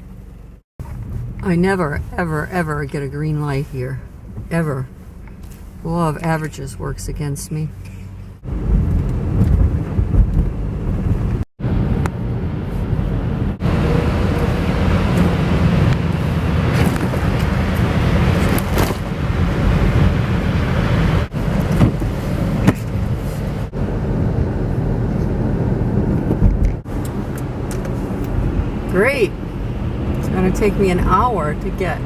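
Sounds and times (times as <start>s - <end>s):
road and tyre noise: 0.0s - 32.0s.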